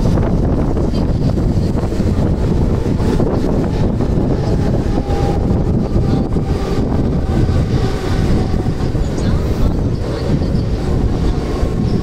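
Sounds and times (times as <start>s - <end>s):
train wheels rumbling: 0.0s - 12.0s
wind noise on microphone: 0.0s - 12.0s.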